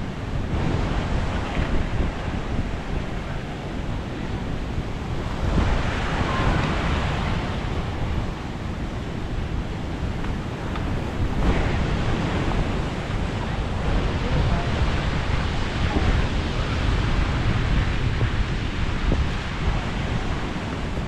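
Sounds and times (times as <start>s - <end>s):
wind buffeting microphone: 0.0s - 21.0s
waves breaking on shingle beach: 0.2s - 21.0s.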